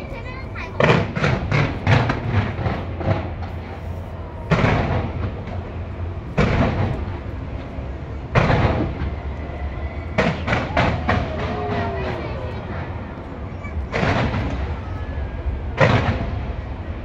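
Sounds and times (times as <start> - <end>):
fireworks bangs and booms: 0.1 - 17.0.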